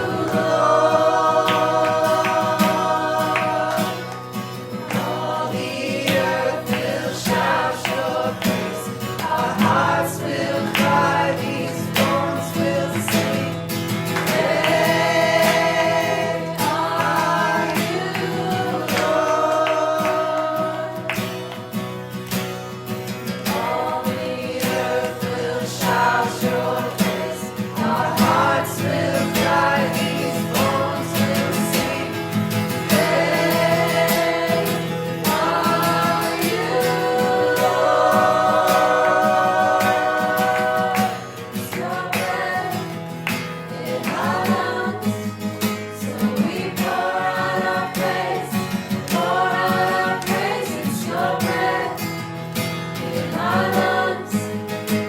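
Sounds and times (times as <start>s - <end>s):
group singing worship song: 0.0s - 55.0s.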